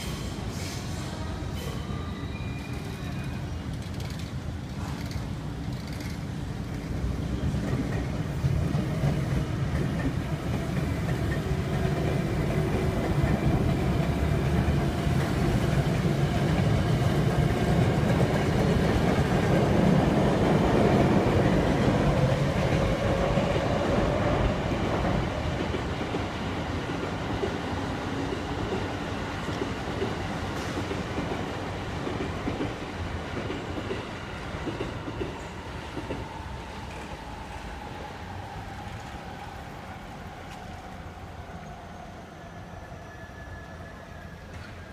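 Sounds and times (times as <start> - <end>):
electric train passing: 0.0 - 44.9.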